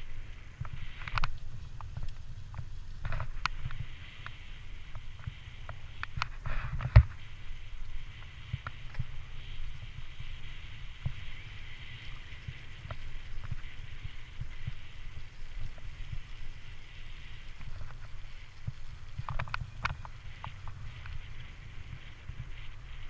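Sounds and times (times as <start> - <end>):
bicycle riding rumble: 0.0 - 23.0
tyres hissing on wet surface: 0.0 - 23.0
bike clicks and rattles: 0.5 - 7.2, 10.2 - 23.0.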